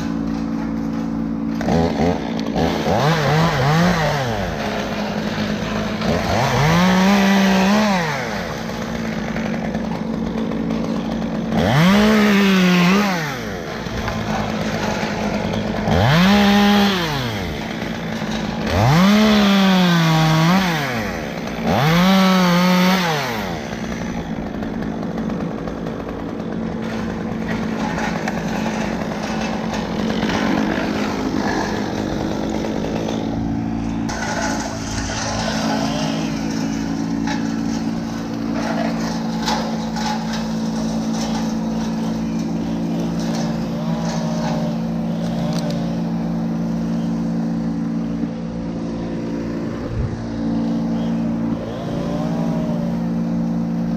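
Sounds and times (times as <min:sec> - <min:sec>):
chainsaw revving and idling: 0:00.0 - 0:53.9.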